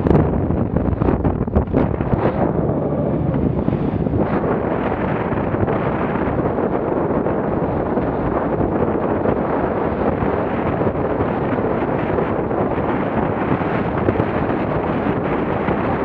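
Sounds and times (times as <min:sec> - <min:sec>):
water splashing against hull: 0:00.0 - 0:16.0
wind buffeting microphone: 0:00.0 - 0:16.0.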